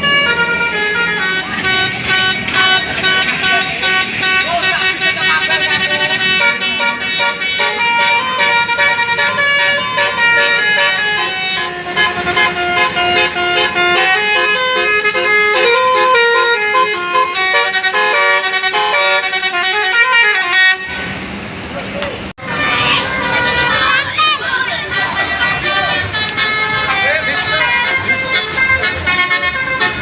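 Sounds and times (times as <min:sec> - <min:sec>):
multi-tone bus horn melody: 0:00.0 - 0:21.3, 0:22.4 - 0:30.0.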